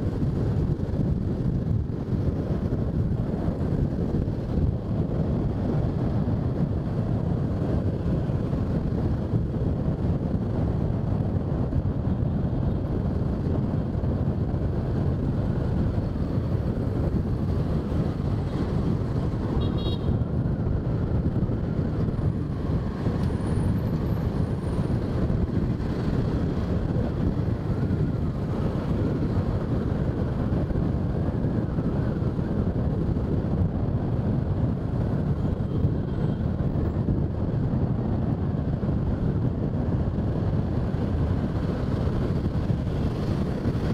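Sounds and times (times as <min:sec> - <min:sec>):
motorbike engine and road noise: 0:00.0 - 0:43.9.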